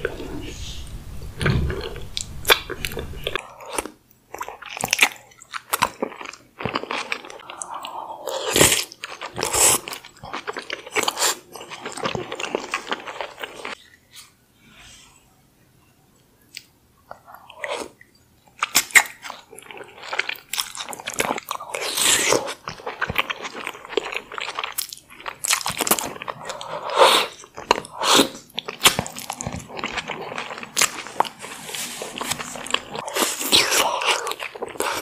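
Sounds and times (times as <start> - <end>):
chewing and wet mouth sounds: 1.4 - 14.4, 16.5 - 35.0.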